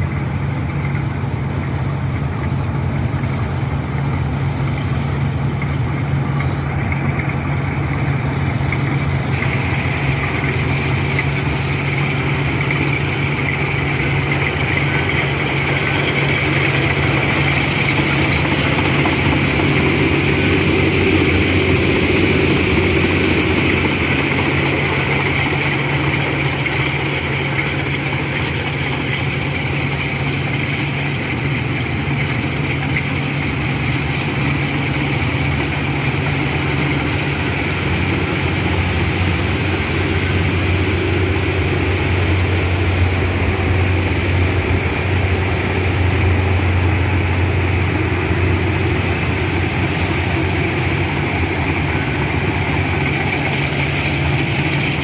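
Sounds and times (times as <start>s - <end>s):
harvester engine drone: 0.0s - 55.0s.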